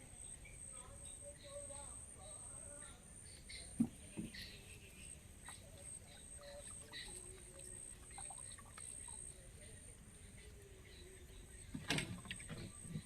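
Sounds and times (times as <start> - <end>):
thin steady high hiss: 0.0 - 13.0
bird-like chirps: 0.1 - 13.0.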